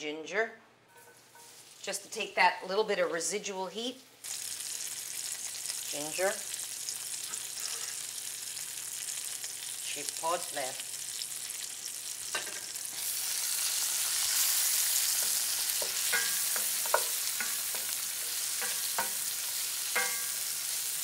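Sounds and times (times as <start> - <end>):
onions sizzling in hot fat: 1.2 - 2.0, 4.2 - 21.0.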